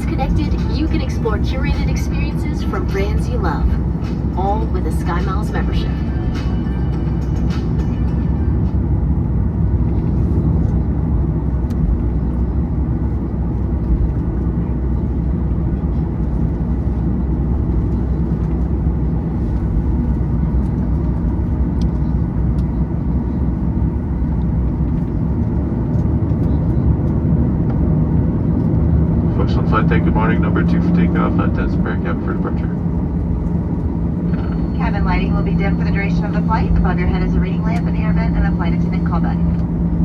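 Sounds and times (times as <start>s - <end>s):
jet engines low rumble in cabin: 0.0s - 40.0s.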